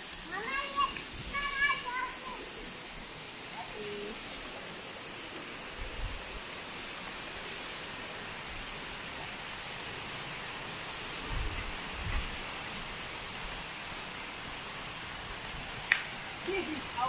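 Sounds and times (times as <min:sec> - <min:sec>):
forest ambience hiss: 0:00.0 - 0:17.0
high insect-like tone: 0:00.0 - 0:17.0.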